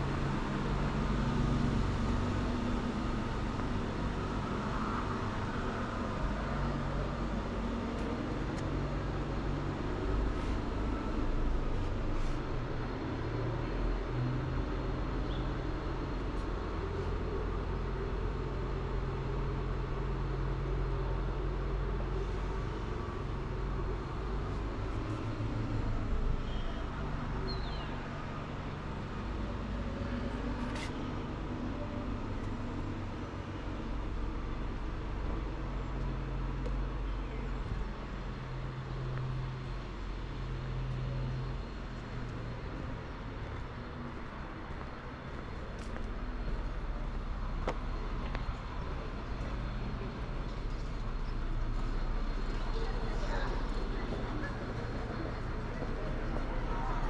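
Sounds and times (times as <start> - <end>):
distant traffic rumble: 0.0 - 57.0.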